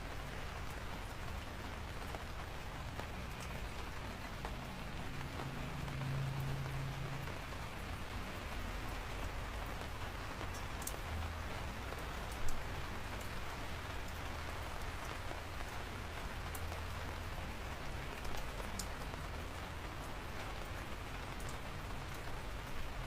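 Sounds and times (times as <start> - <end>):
rain falling: 0.0 - 23.0
raindrops ticking: 0.0 - 23.0.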